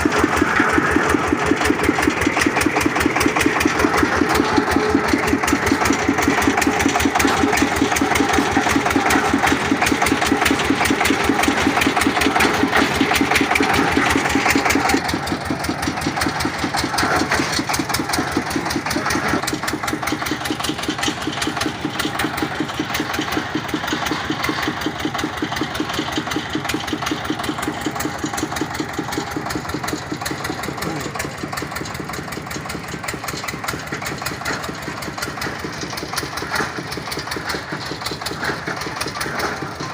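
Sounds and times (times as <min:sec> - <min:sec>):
drilling rig engine chugging: 0:00.0 - 0:39.9.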